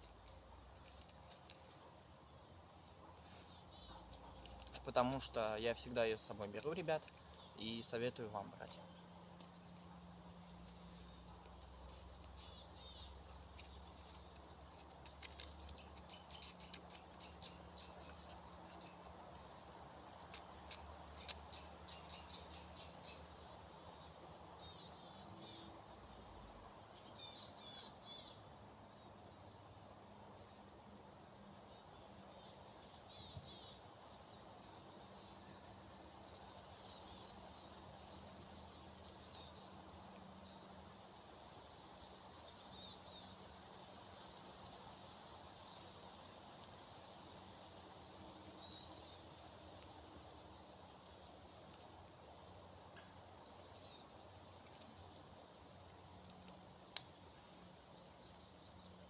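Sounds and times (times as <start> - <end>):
quiet forest background noise: 0.0 - 59.0
small birds chirping: 0.0 - 59.0.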